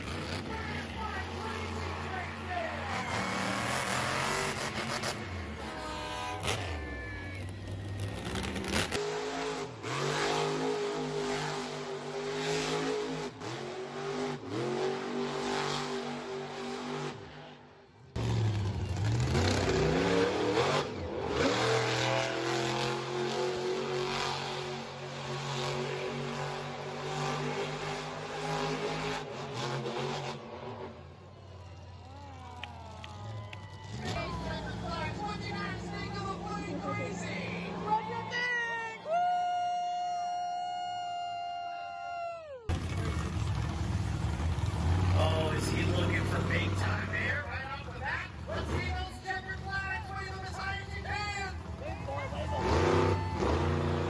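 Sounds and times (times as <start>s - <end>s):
monster truck engines revving: 0.0s - 39.2s, 41.7s - 54.0s.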